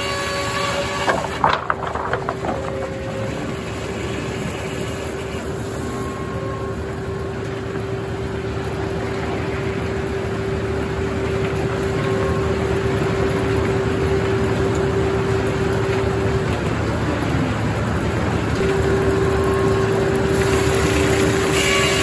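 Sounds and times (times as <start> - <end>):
circular sawmill running: 0.0 - 22.0.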